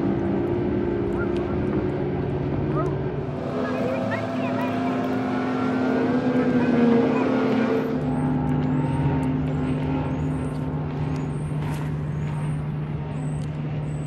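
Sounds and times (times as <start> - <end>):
outboard motor drone: 0.0 - 14.0.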